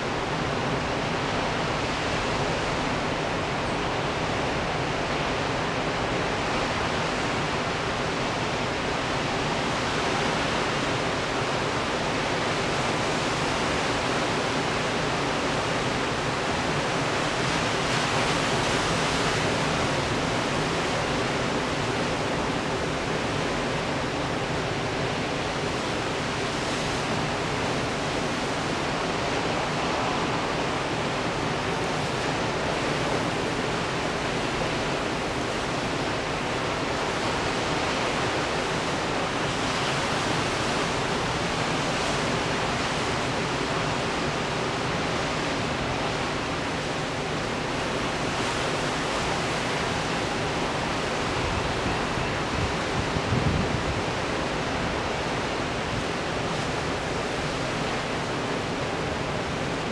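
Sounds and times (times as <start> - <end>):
surf on rocky shore: 0.0 - 59.9.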